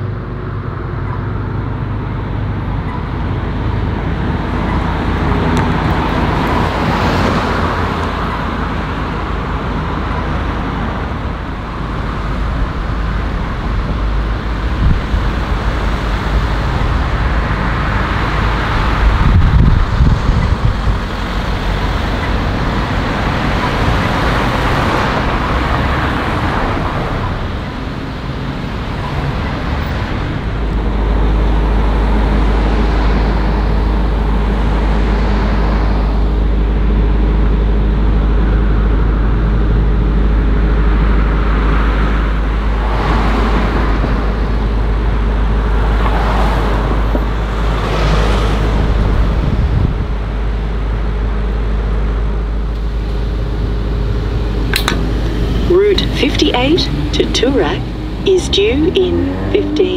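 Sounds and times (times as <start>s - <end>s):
cars passing: 0.0s - 59.9s.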